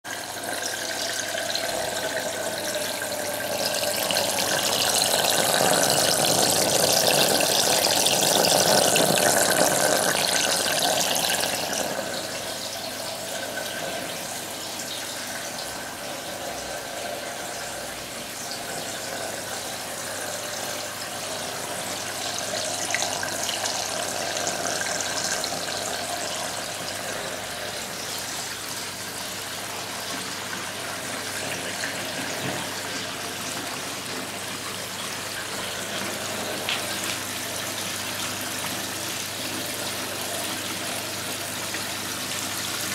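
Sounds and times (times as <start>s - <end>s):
water running through drain pipes: 0.0s - 42.9s.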